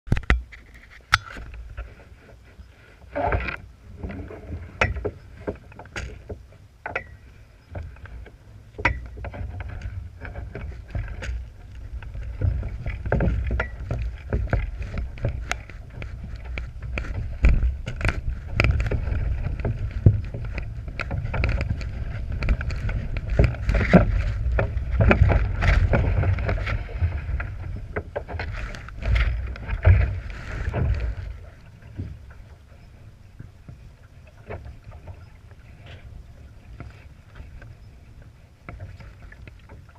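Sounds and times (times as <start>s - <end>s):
water splashing against hull: 0.1s - 39.9s
wind rumble on microphone: 0.1s - 39.9s.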